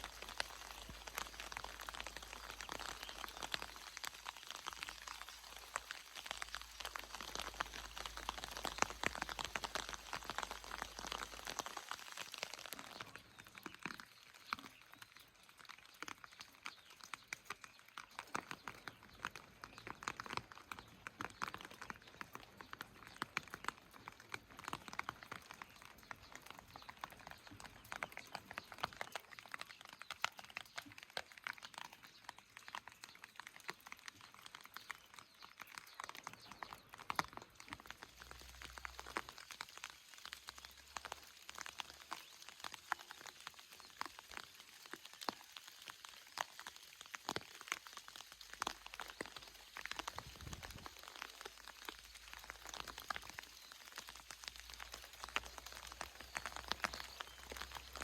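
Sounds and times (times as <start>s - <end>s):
light rain hiss: 0.0s - 58.0s
raindrops tapping: 0.0s - 58.0s.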